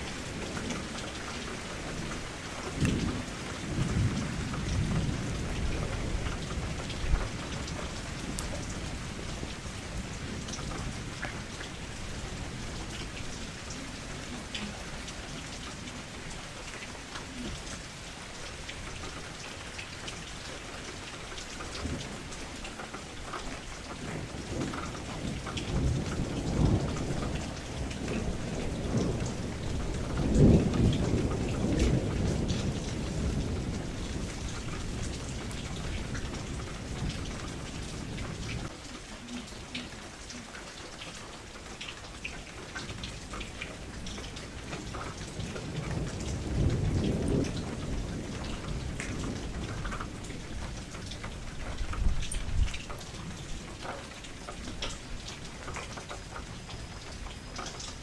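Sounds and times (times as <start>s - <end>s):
rain on window glass: 0.0s - 58.0s
raindrop ticks: 0.0s - 58.0s.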